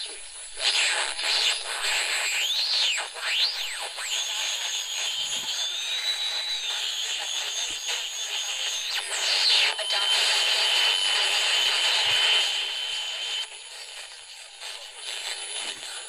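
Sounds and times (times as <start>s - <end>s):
high radio whistle: 0.0s - 16.0s
radio static hissing: 0.0s - 16.0s.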